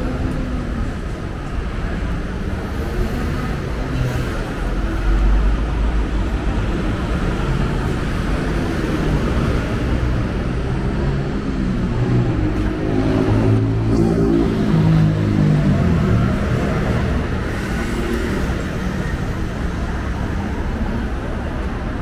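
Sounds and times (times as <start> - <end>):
road noise: 0.0 - 22.0.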